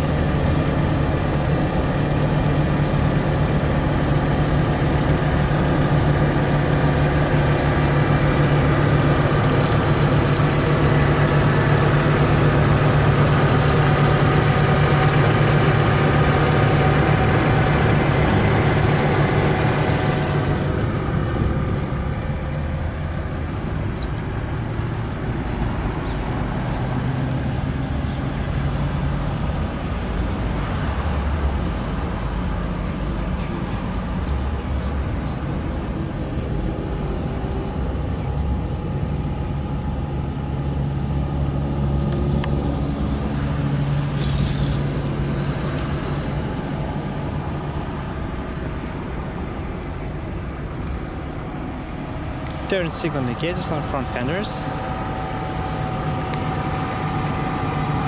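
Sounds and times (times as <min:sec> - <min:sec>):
car engine idling: 0:00.0 - 0:26.8, 0:31.2 - 0:58.0.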